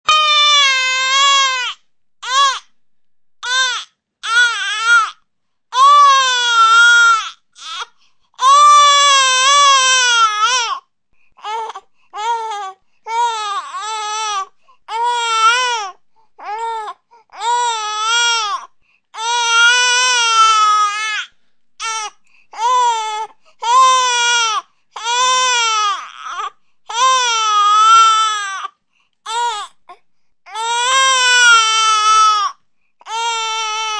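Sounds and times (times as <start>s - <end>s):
infant crying: 0.1s - 2.7s, 3.4s - 10.8s, 11.4s - 33.9s.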